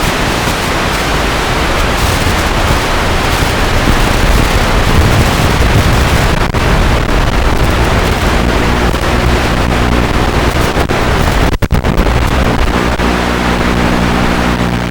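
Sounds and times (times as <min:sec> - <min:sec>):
steady hum of even tones: 0:00.0 - 0:14.9
wind rush on microphone: 0:00.0 - 0:14.9.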